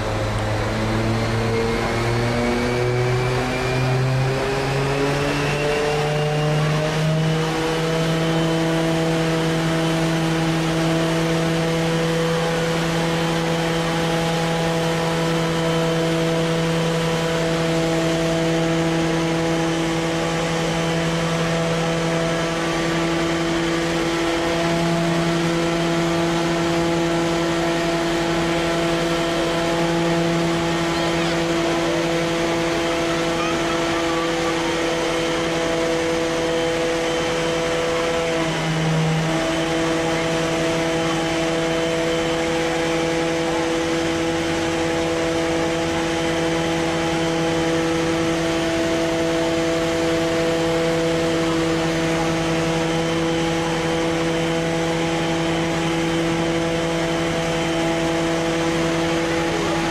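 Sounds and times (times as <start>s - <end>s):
fire truck engine revving: 0.0s - 59.9s.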